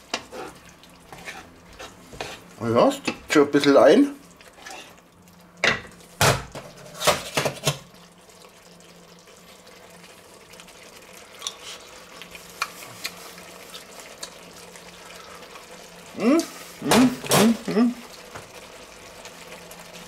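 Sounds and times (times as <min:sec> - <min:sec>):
sauce simmering with soft pops: 0:00.0 - 0:06.8, 0:07.6 - 0:20.0.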